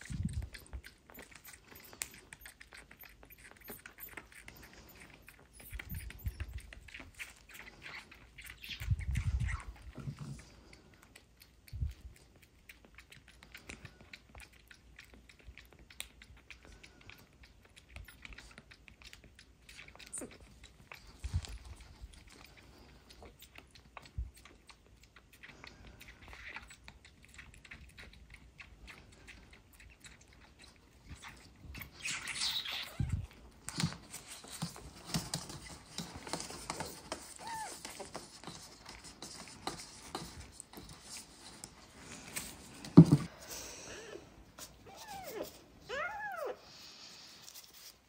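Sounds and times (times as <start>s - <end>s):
kitten suckling wet clicks: 0.0s - 43.0s.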